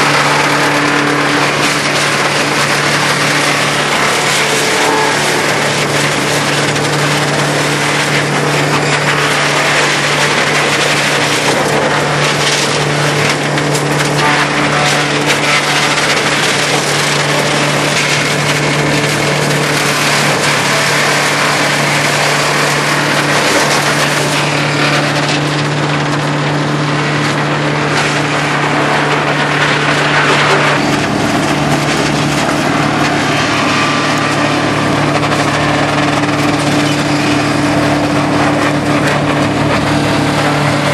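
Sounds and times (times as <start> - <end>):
diesel engine hum: 0.0 - 40.9
wood crackling and splintering: 0.0 - 40.9.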